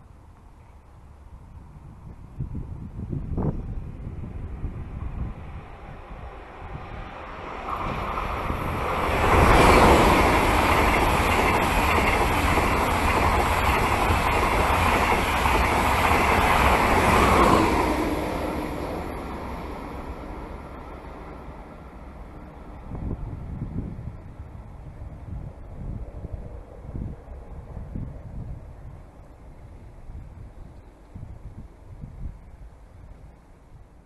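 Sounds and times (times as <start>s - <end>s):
high-speed train passing: 0.0s - 34.0s.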